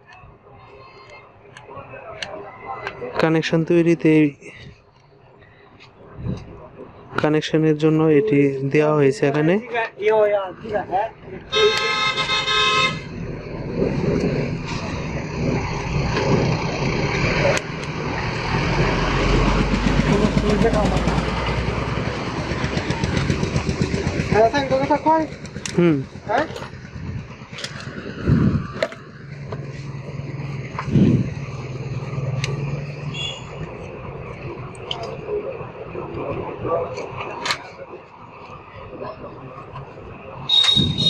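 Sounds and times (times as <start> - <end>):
vehicle engine rumbling: 0.0 - 41.0.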